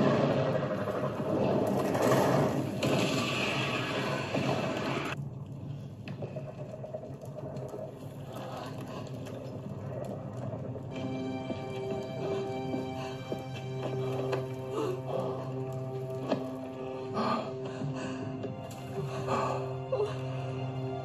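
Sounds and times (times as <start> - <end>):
scraping and debris sounds: 0.0 - 16.8
rumbling and crashing: 0.0 - 17.1.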